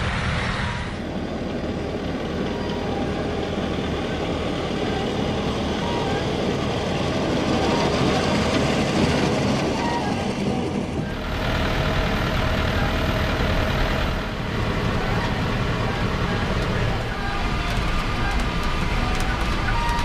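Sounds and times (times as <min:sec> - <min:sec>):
tractor engine and machinery: 0:00.0 - 0:20.0.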